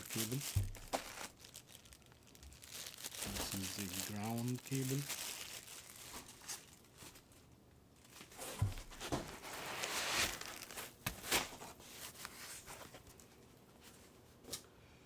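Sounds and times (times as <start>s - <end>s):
packaging rustling and crinkling: 0.0s - 14.0s.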